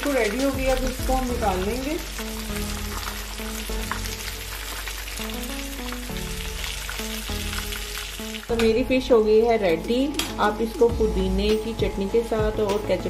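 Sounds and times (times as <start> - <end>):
fish sizzling in hot oil: 0.0 - 10.5
background music low held notes: 0.0 - 13.0.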